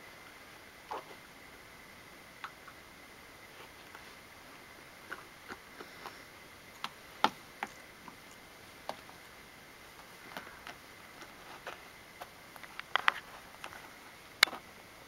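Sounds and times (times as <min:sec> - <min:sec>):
faint high-pitched hum: 0:00.0 - 0:15.0.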